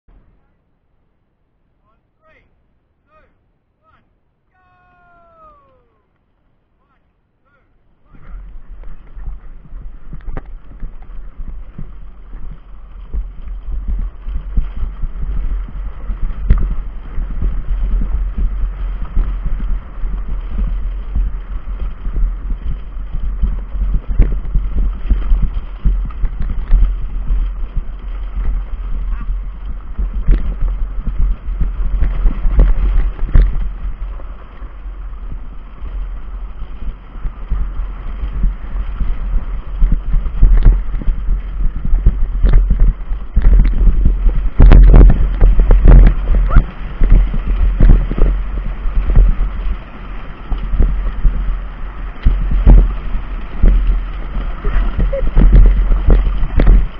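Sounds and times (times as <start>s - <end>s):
wind buffeting microphone: 7.8s - 56.9s
cart wheels rattling on stones: 8.1s - 56.9s.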